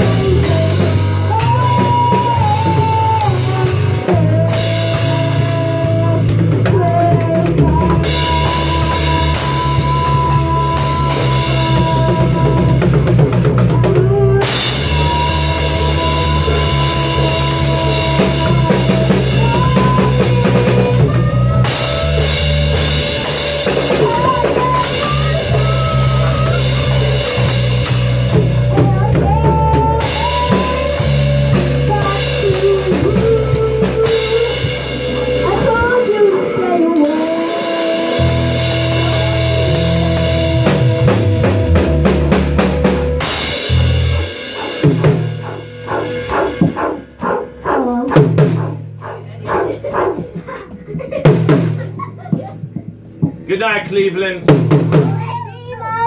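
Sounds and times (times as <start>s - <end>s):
bass guitar: 0.0s - 56.0s
drum kit with crashing cymbals: 0.0s - 56.0s
rock band jamming: 0.0s - 56.0s.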